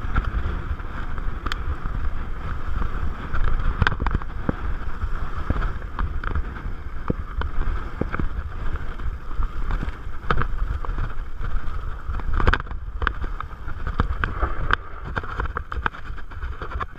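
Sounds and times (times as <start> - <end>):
bike clicks and rattles: 0.0 - 16.9
bike tyres rumbling on dirt: 0.0 - 16.9
wind buffeting microphone: 0.0 - 16.9.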